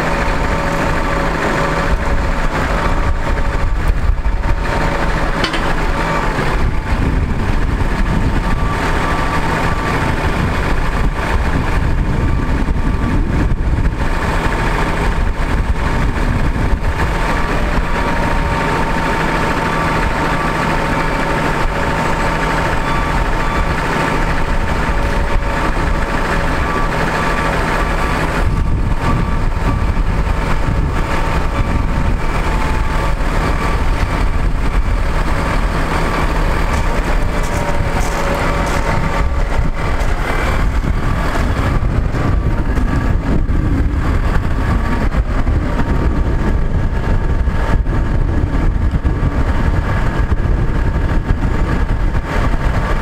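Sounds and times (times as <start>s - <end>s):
diesel engine running: 0.0s - 53.0s
hydraulic whine: 0.0s - 53.0s.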